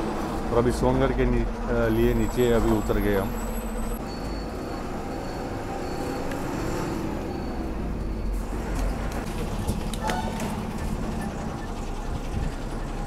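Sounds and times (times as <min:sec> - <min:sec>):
bus engine and tyres rumbling: 0:00.0 - 0:13.0.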